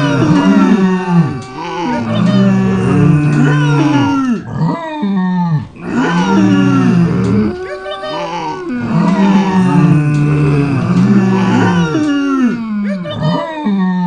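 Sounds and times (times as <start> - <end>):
farm animals calling: 0.0 - 4.4, 5.6 - 13.5.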